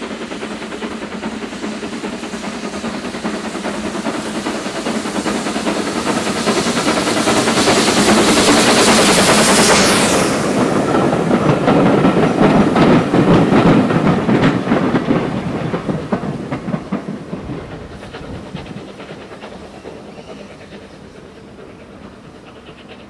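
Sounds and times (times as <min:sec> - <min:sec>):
steam hiss: 0:00.0 - 0:23.0
train wheels clicking over rail joints: 0:00.0 - 0:23.0.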